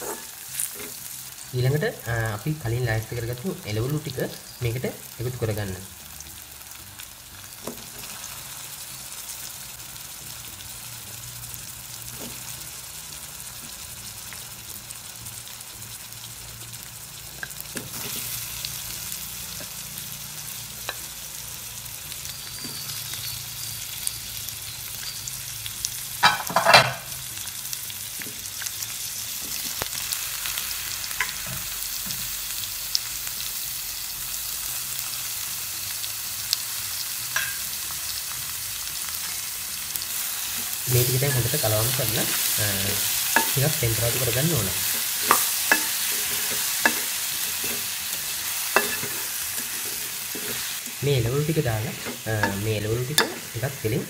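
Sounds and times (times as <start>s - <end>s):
vegetables sizzling in oil: 0.0s - 54.0s.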